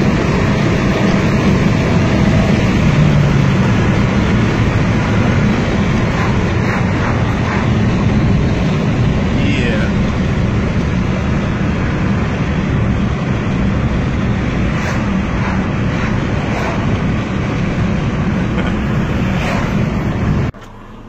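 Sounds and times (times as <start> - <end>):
engine and road noise: 0.0 - 21.0.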